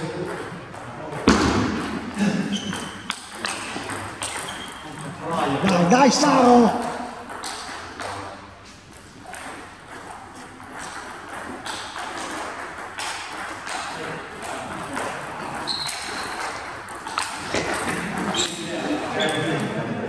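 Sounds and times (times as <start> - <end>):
table tennis balls bouncing: 0.0 - 20.0.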